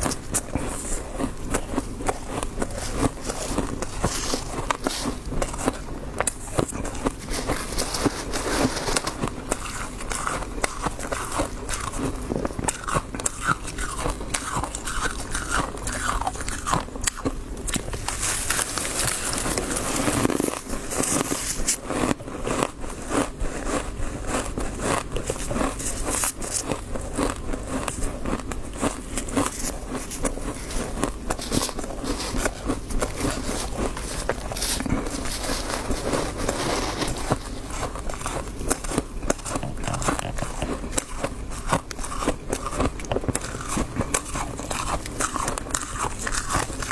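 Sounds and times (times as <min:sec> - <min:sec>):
chewing crunchy frost: 0:00.0 - 0:46.9.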